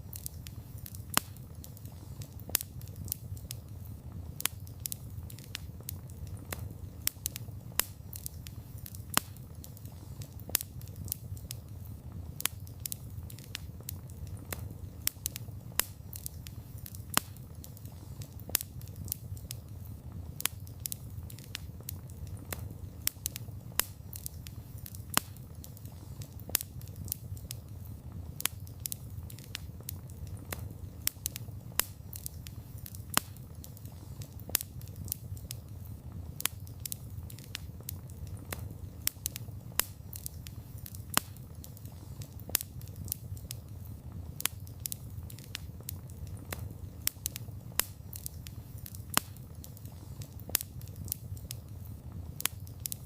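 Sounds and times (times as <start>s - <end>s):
crackles and pops of fire: 0.0s - 53.0s
low rumble of flame: 0.0s - 53.0s.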